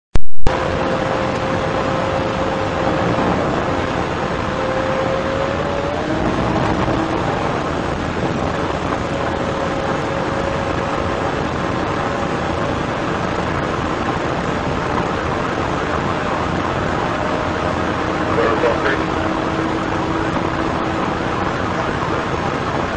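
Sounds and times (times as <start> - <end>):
thin steady whine: 0.2 - 22.9
wind and road noise: 0.2 - 22.9.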